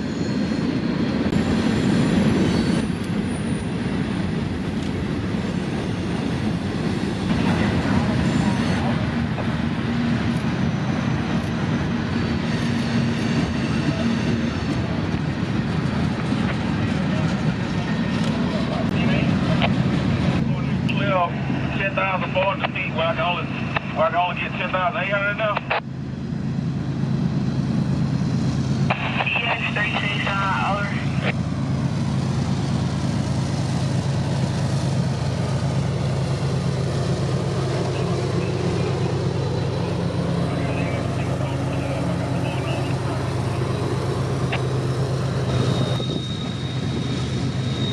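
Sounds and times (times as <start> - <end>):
freight train wheels rumbling: 0.0 - 47.9.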